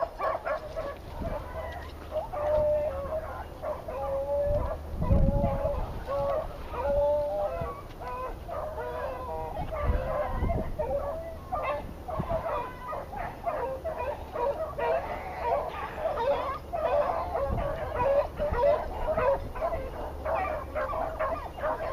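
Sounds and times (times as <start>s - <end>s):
dogs baying: 0.0s - 21.9s.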